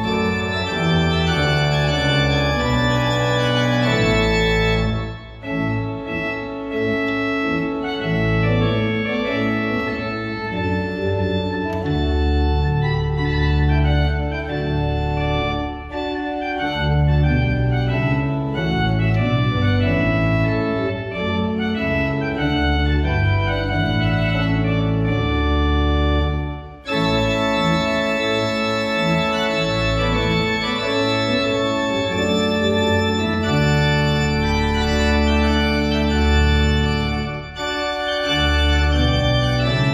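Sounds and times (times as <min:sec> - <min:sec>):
church organ playing: 0:00.0 - 0:39.9.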